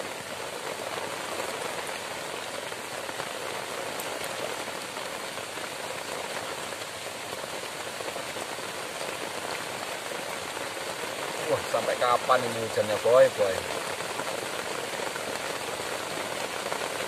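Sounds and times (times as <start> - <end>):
heavy rain on thatch and foliage: 0.0 - 17.0.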